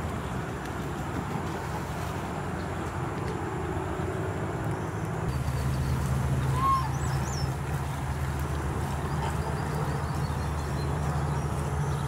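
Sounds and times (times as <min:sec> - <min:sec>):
low motor-like rumble: 0:00.0 - 0:12.0.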